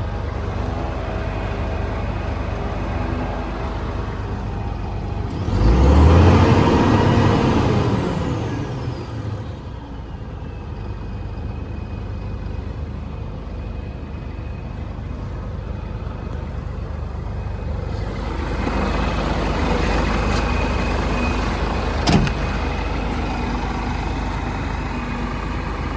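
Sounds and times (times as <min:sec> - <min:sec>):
diesel truck engine revving: 0:00.0 - 0:25.9.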